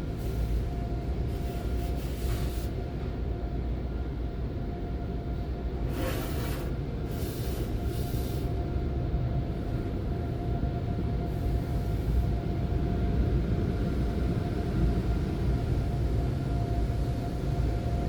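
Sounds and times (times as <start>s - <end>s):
faint constant hum: 0.0s - 18.0s.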